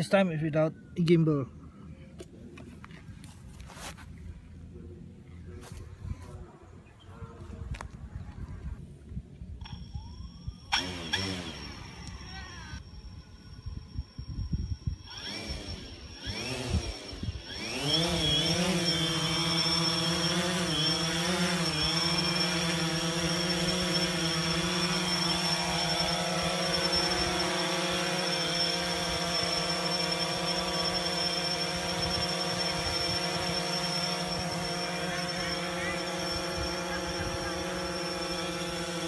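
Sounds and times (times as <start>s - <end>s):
drone propellers buzzing and whining: 4.1s - 39.0s.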